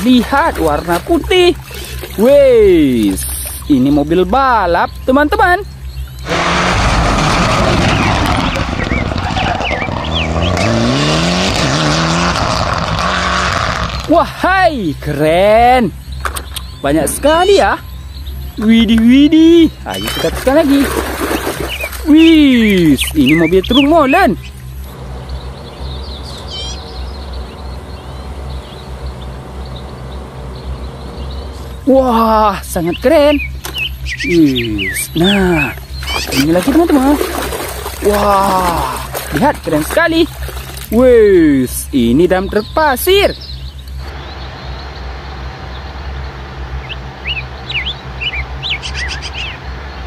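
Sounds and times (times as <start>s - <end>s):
small birds chirping: 0.0s - 12.2s, 12.9s - 50.0s
rally car engine revving: 5.6s - 50.0s.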